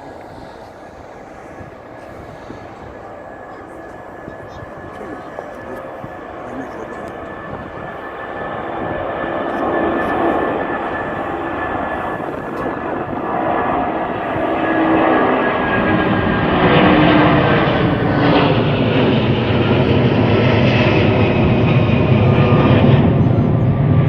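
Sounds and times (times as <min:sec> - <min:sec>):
airliner engines roaring: 0:00.0 - 0:24.0.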